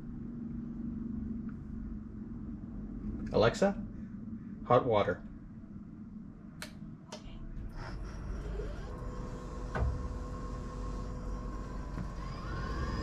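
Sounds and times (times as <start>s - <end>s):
pump low hum: 0.0s - 13.0s.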